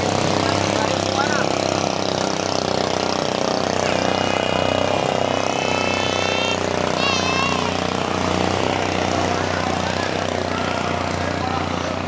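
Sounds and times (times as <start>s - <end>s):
boat diesel engines droning: 0.0s - 12.0s
crowd murmur: 0.0s - 12.0s.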